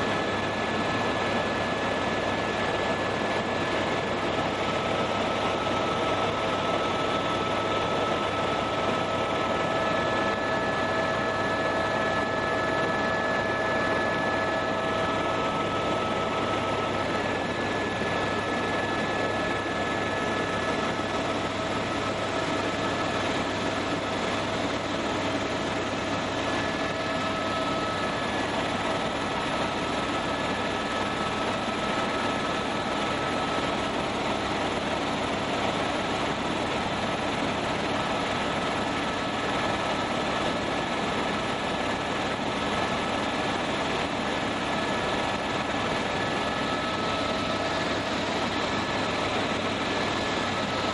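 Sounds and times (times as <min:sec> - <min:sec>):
helicopter engine and rotors: 0:00.0 - 0:50.9
steady whining tones: 0:00.0 - 0:50.9.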